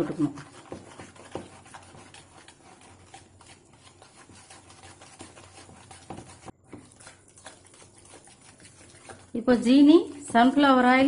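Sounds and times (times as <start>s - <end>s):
whisk strokes against bowl: 0.0s - 11.0s.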